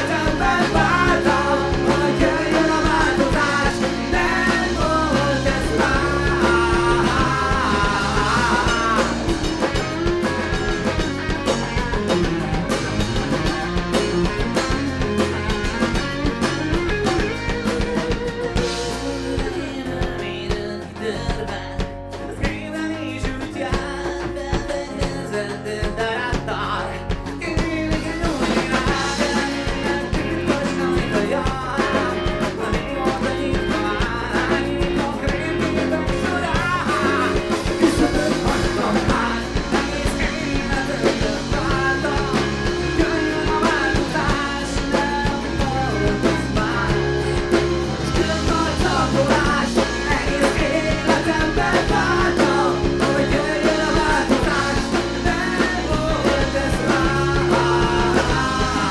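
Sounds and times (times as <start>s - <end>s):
person singing: 0.0s - 12.4s, 13.4s - 58.9s
drum kit: 0.0s - 58.9s
guitar: 0.0s - 58.9s.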